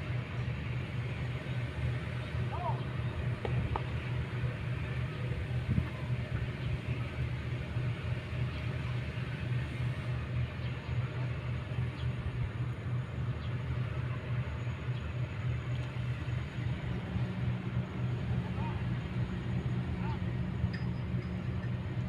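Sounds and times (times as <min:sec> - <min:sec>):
excavator diesel engine rumbling: 0:00.2 - 0:22.0.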